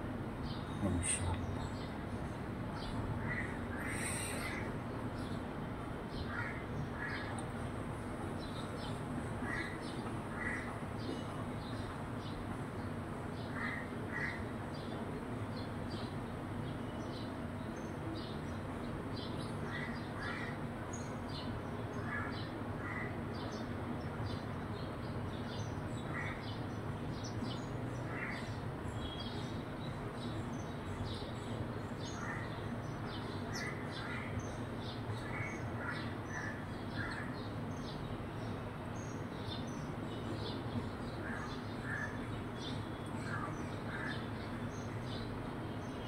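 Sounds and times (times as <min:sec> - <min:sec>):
sparrows chirping: 0:00.4 - 0:07.4, 0:08.3 - 0:46.0.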